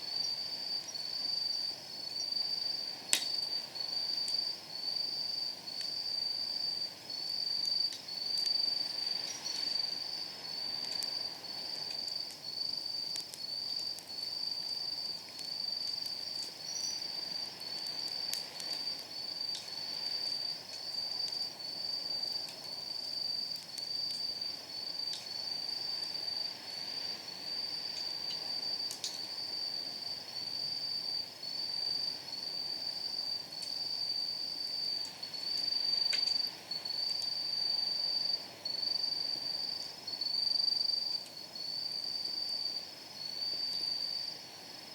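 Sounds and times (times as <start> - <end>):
firewood crackling and popping: 0.0 - 42.0
crickets trilling: 0.0 - 44.9.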